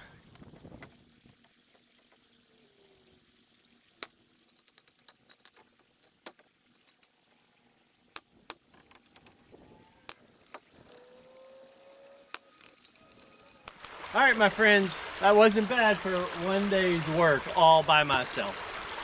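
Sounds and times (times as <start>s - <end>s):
creek rushing: 0.0s - 19.0s.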